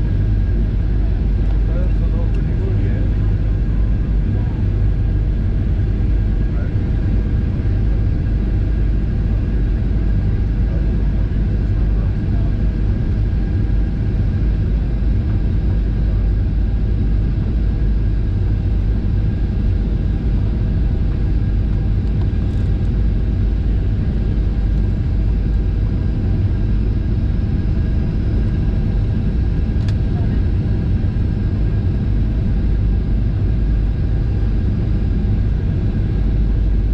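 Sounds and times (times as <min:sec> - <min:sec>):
faint steady whine: 0:00.0 - 0:36.9
jet engines rumbling: 0:00.0 - 0:36.9.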